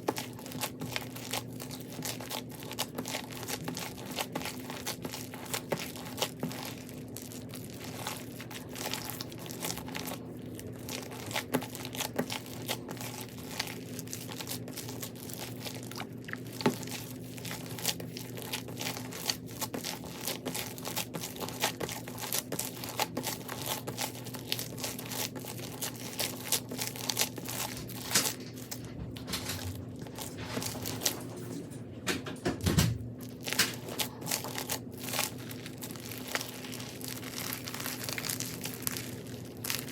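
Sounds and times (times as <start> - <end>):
crunchy slime crackling: 0.0 - 31.3, 32.6 - 39.9
heavy slime squish: 0.0 - 31.3, 32.6 - 39.9.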